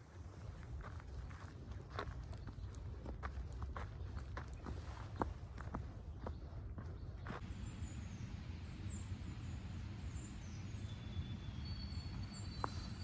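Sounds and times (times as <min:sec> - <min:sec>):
songbirds chirping: 0:00.1 - 0:13.0.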